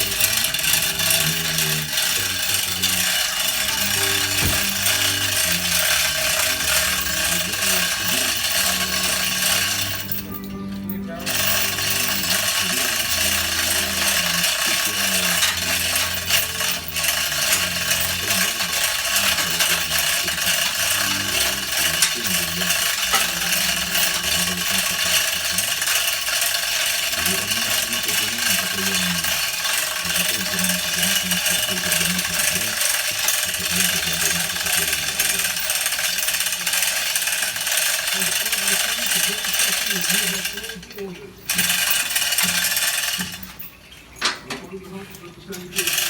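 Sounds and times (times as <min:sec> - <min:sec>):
backhoe engine rattling: 0:00.0 - 0:40.8.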